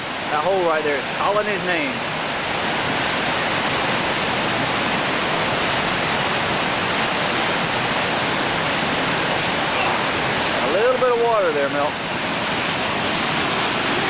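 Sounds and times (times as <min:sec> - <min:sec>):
whitewater rushing through rapid: 0:00.0 - 0:14.0.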